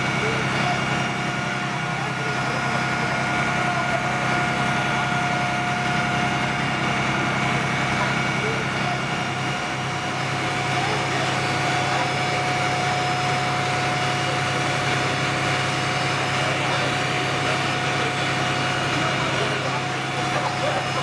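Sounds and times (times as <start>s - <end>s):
fire truck engine running: 0.0s - 21.0s
thin steady whine: 0.0s - 21.0s.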